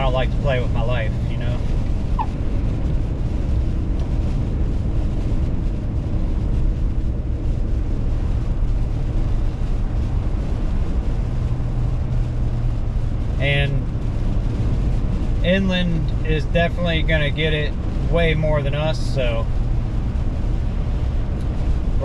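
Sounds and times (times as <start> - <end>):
car interior road and engine noise: 0.0 - 22.0.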